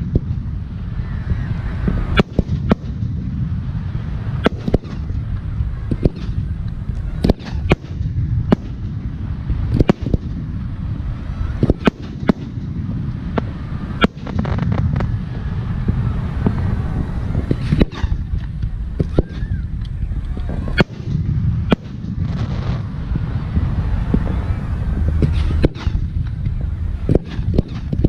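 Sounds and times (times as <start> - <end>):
firework bangs: 0.0 - 28.0
steady low rumble: 0.0 - 28.0.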